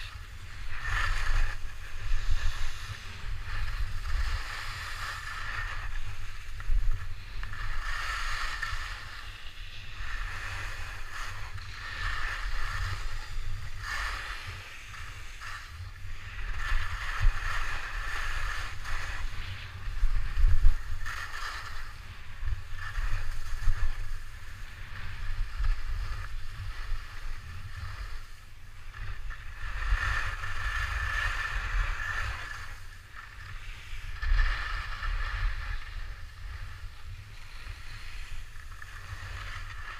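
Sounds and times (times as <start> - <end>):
skis scraping on snow: 0.0 - 39.9
wind rumble on microphone: 0.0 - 39.9.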